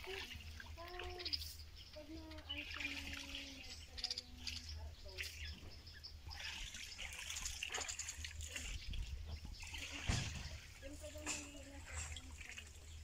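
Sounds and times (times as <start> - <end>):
bird sharp chirping calls: 0.0 - 13.0.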